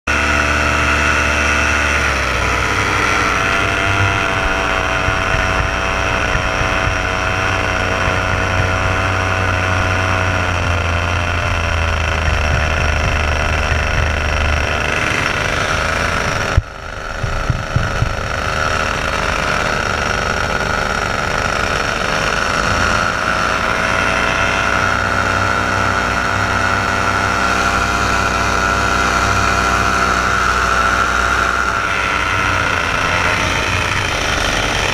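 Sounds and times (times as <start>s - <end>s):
paramotor engine and propeller: 0.1s - 34.9s.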